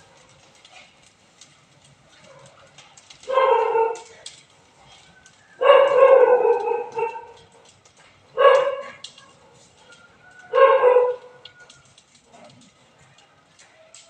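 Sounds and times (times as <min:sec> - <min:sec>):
burning straw crackling: 0:00.0 - 0:14.0.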